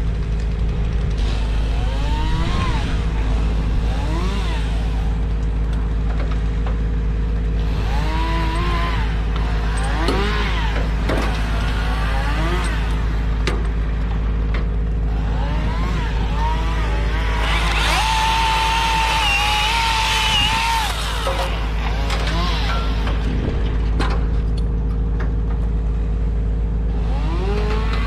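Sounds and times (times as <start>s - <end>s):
large engine droning: 0.0s - 28.0s.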